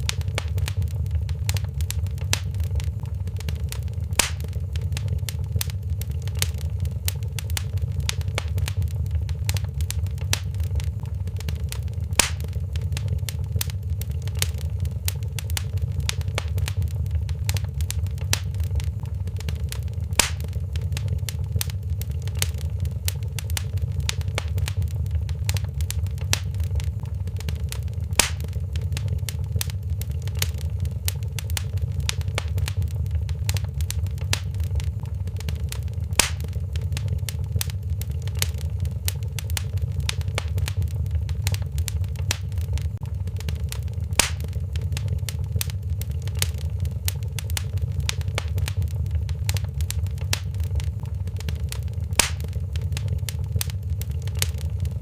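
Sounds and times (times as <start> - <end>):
fire flames rumbling: 0.0 - 55.0
fire popping: 0.0 - 55.0
wood fire crackling: 0.0 - 55.0.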